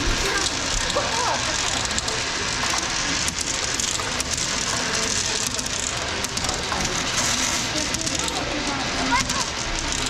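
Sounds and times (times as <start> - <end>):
coins rolling in a spiral funnel: 0.0 - 10.0.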